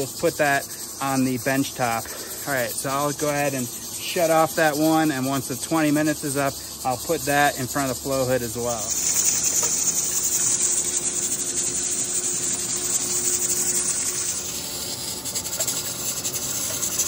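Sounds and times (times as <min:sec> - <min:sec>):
steam hissing from pressure cooker: 0:00.0 - 0:17.0.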